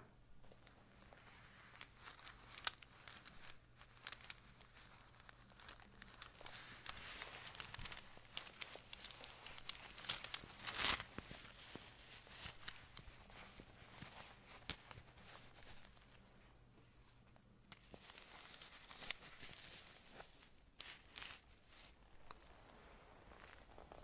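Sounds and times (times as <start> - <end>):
bag crinkling and rustling: 0.5 - 16.2, 17.8 - 24.0.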